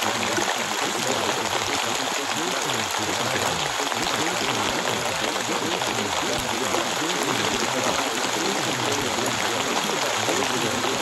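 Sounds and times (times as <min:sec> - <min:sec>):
overlapping spoken voices: 0:00.0 - 0:11.0
steady rain hissing: 0:00.0 - 0:11.0.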